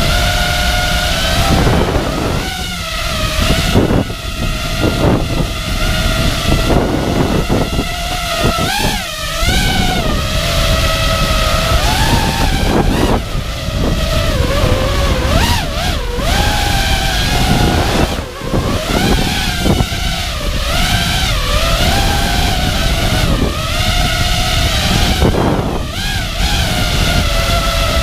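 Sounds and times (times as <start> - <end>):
drone motors whining: 0.0 - 28.0
wind noise: 0.0 - 28.0.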